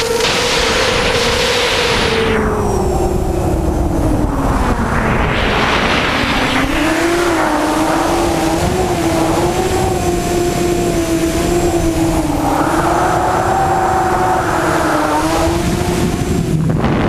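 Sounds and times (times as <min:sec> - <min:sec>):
drone motors buzzing whine: 0:00.0 - 0:17.0
wind rushing over microphone: 0:00.0 - 0:17.0.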